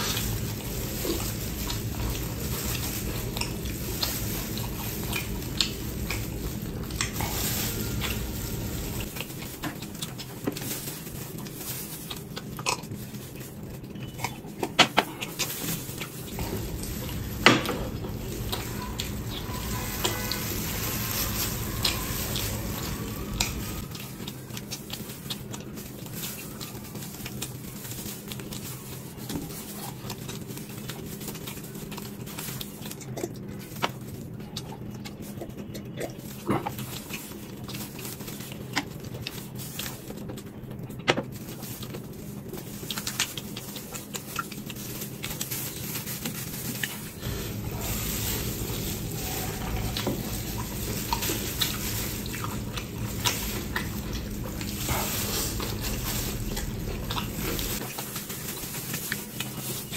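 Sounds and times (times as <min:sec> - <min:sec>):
chewing and wet mouth noises: 0:00.0 - 0:59.9
steady low hum: 0:00.0 - 0:59.9.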